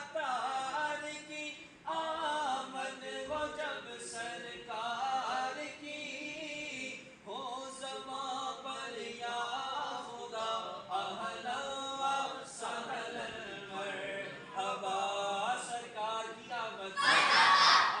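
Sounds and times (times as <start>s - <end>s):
man singing unaccompanied: 0.0s - 17.3s.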